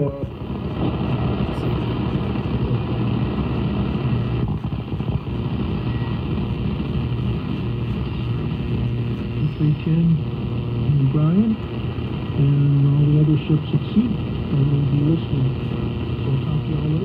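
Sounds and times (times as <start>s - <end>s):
radio static and hiss: 0.0s - 17.0s
steady low hum: 0.0s - 17.0s.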